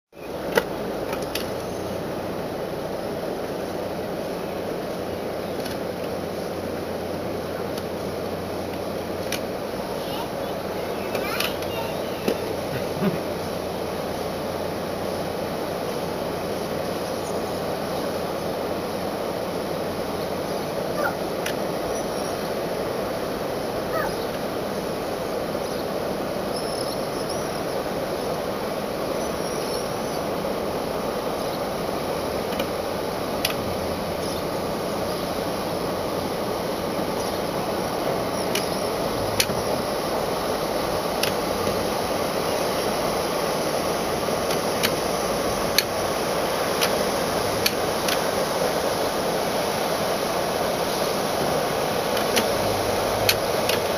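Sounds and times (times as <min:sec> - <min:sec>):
boat engine running at low revs: 0:00.2 - 0:53.9.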